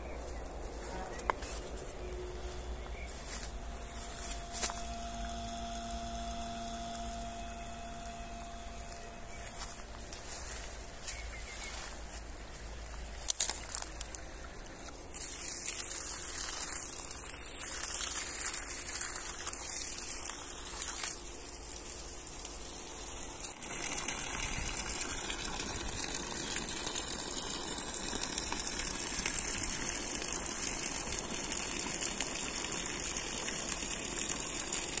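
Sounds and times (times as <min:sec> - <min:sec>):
water splashing onto soil: 0:00.1 - 0:35.0.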